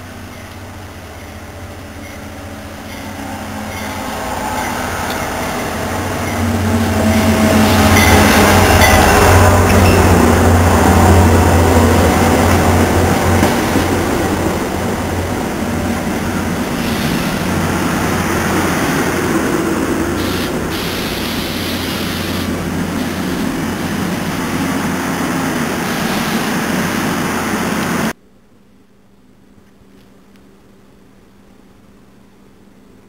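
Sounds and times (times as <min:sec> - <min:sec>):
train coaches rumbling past: 0:00.0 - 0:28.2.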